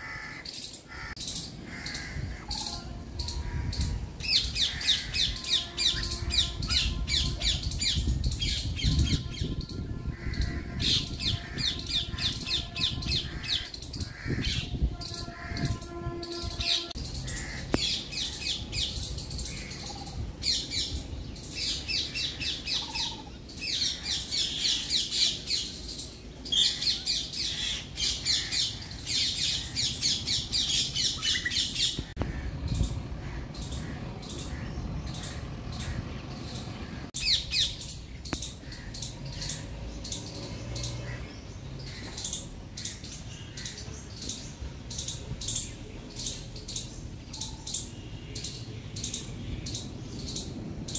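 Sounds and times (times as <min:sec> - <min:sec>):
birds chattering harsh calls: 0:00.0 - 0:50.9.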